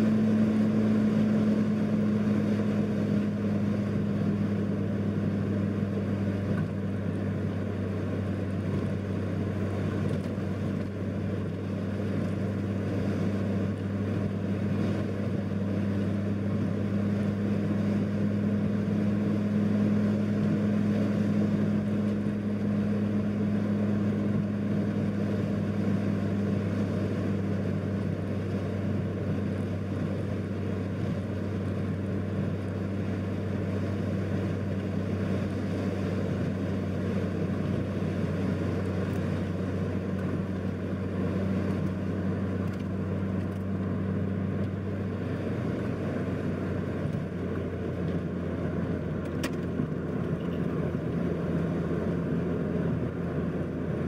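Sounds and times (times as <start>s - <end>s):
tyre noise on highway: 0.0s - 54.0s
vehicle engine drone: 0.0s - 54.0s.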